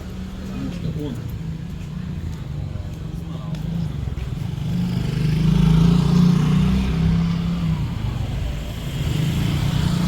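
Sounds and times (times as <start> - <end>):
motor scooter engines running: 0.0 - 10.0
traffic noise: 0.0 - 10.0.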